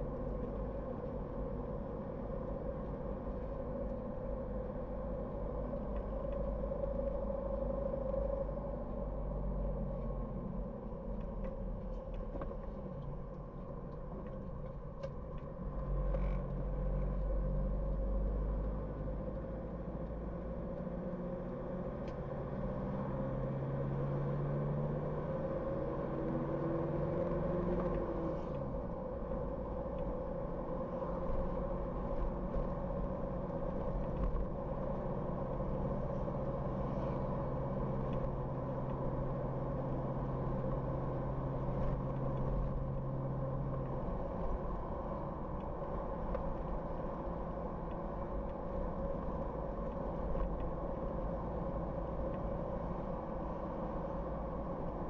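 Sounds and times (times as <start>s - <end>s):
car engine: 0.0s - 55.0s.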